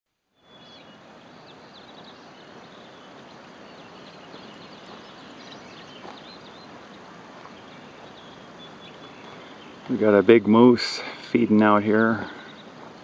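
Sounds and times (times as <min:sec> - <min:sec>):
steady outdoor hiss: 0:00.1 - 0:13.0
faint high chirps and ticks: 0:00.4 - 0:13.0.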